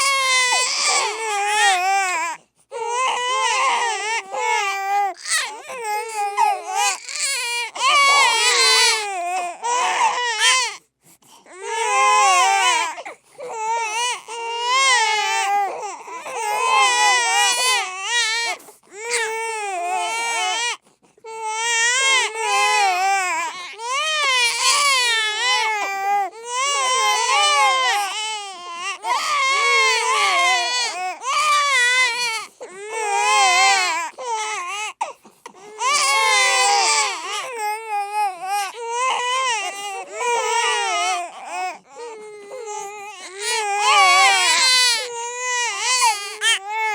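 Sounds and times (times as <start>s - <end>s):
baby crying: 0.0s - 10.8s, 11.5s - 46.9s.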